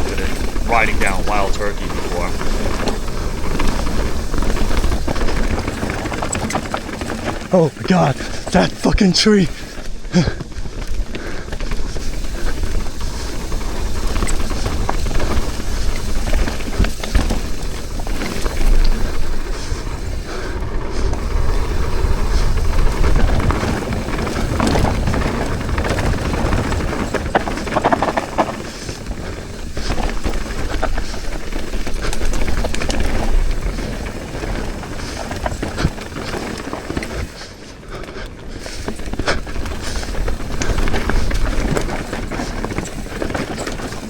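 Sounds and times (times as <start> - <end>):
bike chain and frame rattling: 0.0 - 8.8, 9.5 - 44.0
wind and tyres on dirt: 0.0 - 44.0.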